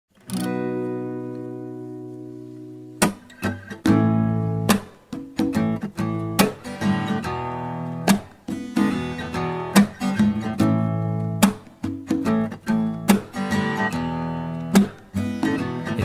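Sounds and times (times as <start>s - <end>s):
strummed acoustic guitar: 0.1s - 16.0s.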